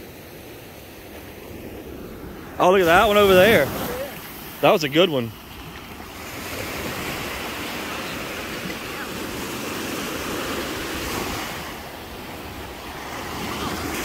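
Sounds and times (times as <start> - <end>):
surf washing onto sandy beach: 0.0 - 14.0.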